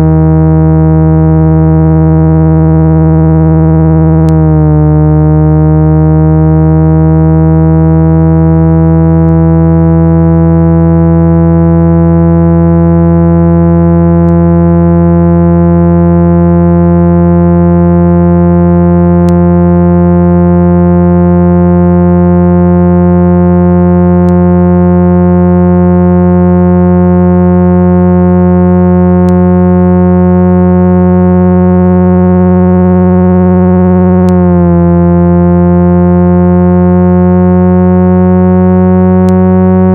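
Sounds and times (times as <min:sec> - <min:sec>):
buzzy low hum tone: 0:00.0 - 0:39.9.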